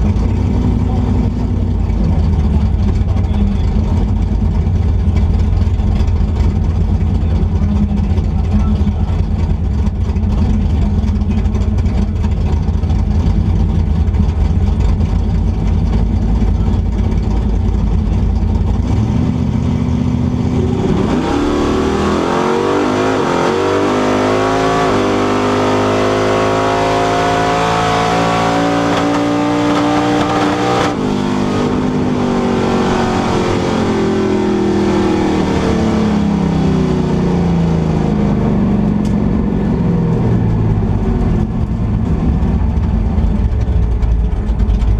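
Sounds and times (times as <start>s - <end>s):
drag car engine revving: 0.0s - 44.9s.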